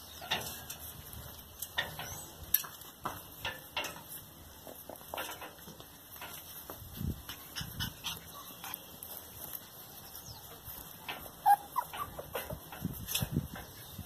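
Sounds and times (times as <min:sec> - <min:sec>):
puppies' paws clicking and tapping: 0:00.0 - 0:14.0.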